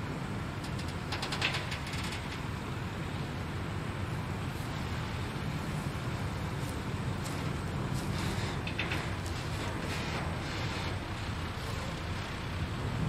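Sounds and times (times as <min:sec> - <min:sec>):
diesel truck engine droning: 0:01.8 - 0:13.0.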